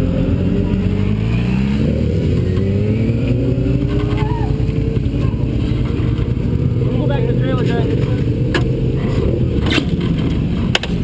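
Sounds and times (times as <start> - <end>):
race car engine revving: 0.0 - 11.0
wind and road noise: 0.0 - 11.0.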